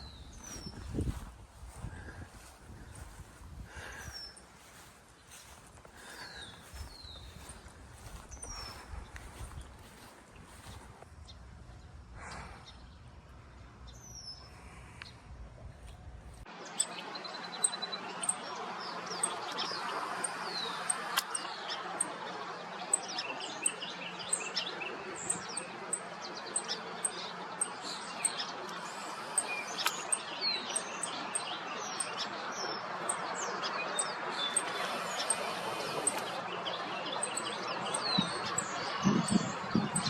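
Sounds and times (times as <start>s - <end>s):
wild birds chirping: 0.0s - 15.4s, 16.5s - 40.0s.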